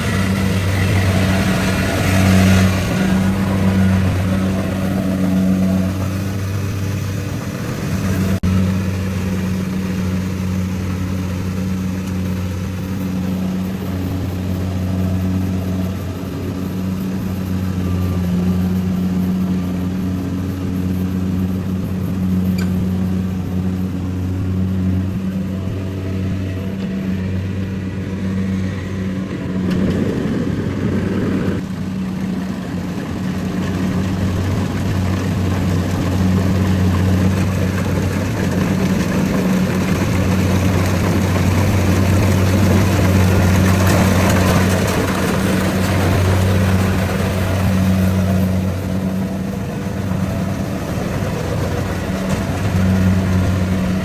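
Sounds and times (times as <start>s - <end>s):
harvester engine humming: 0.0s - 54.0s.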